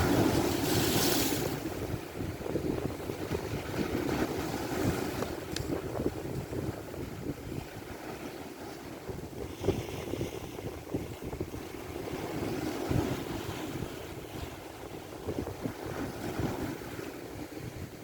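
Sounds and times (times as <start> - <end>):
waves washing: 0.0 - 18.0
wind buffeting microphone: 0.0 - 18.0.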